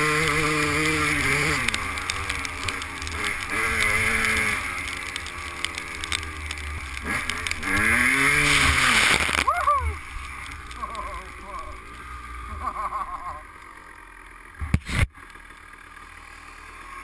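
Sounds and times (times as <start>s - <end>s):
motocross bike engine: 0.0s - 17.0s.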